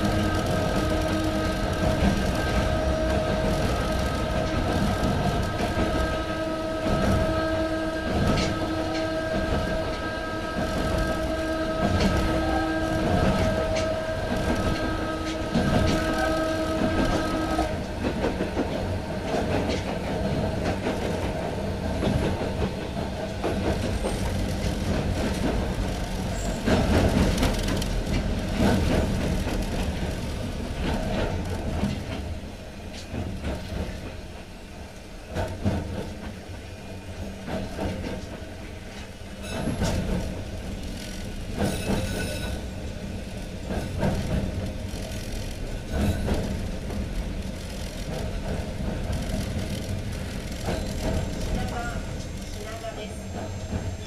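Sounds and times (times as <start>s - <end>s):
rail-joint clicks: 0.0s - 54.0s
train wheels rumbling on track: 0.0s - 54.0s.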